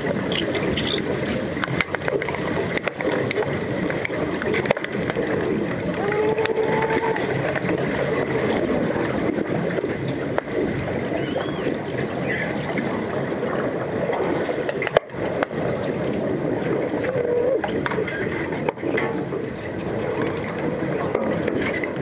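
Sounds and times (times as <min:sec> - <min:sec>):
underwater churning of water and bubbles: 0:00.0 - 0:22.0.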